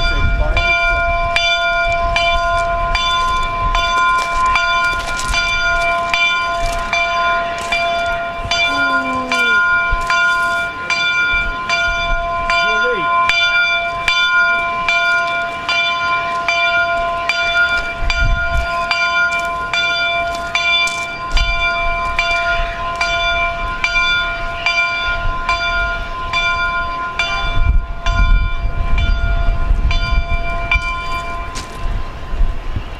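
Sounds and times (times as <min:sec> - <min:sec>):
locomotive bell ringing: 0:00.0 - 0:32.2.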